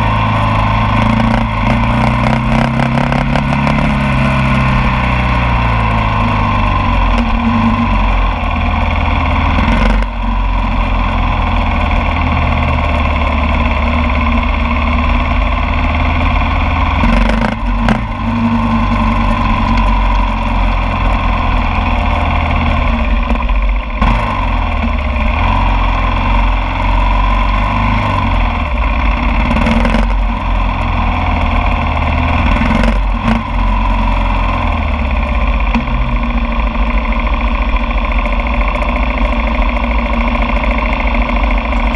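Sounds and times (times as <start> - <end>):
motorcycle engine running loud: 0.0 - 41.9.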